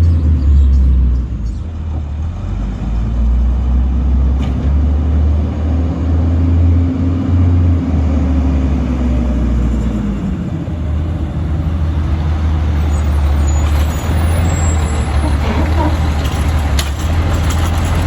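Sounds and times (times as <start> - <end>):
garbage truck engine rumble: 0.0 - 18.0.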